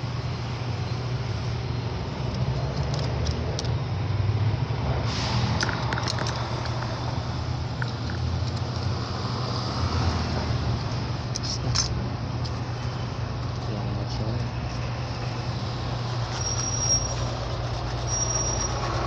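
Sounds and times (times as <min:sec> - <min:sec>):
low mechanical hum: 0:00.0 - 0:05.0, 0:05.7 - 0:19.0.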